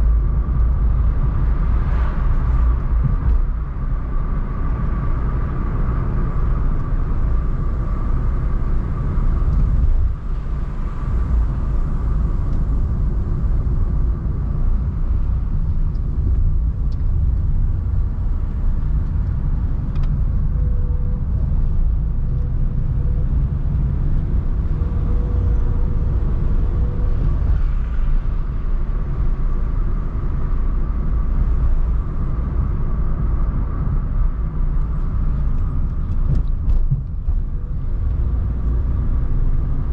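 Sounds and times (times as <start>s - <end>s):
car engine rumble: 0.0s - 39.9s
tyres on road: 0.0s - 39.9s.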